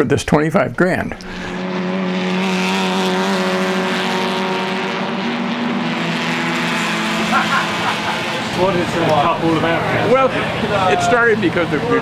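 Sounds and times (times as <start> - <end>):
racing car engines at speed: 1.1 - 12.0.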